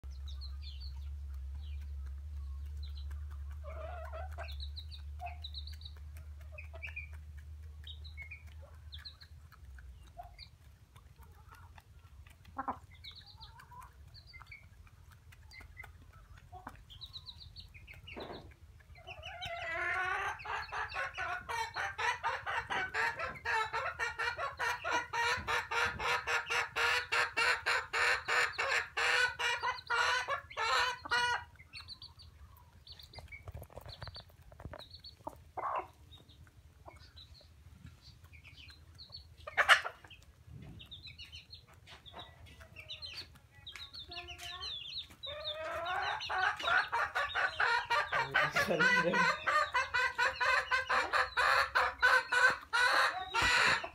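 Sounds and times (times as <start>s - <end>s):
hens clucking: 0.0s - 53.9s.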